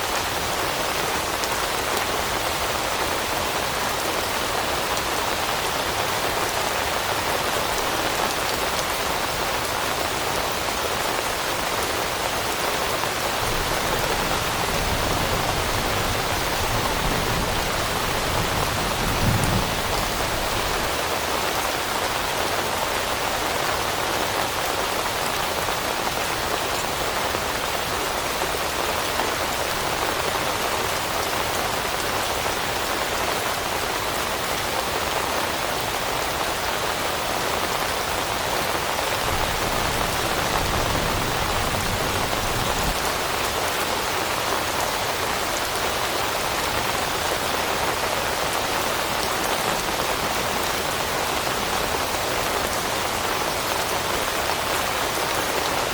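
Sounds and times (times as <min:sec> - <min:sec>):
rain pattering on leaves: 0:00.0 - 0:55.9.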